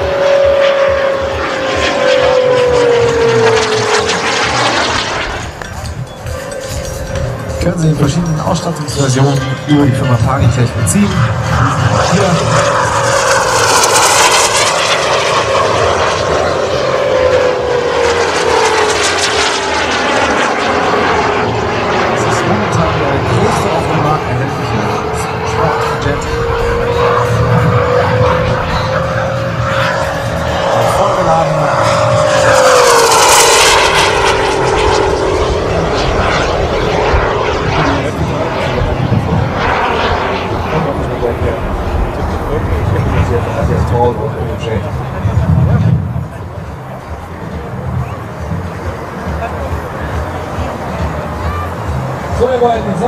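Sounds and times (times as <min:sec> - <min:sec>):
model jet turbine whining: 0:00.0 - 0:53.0.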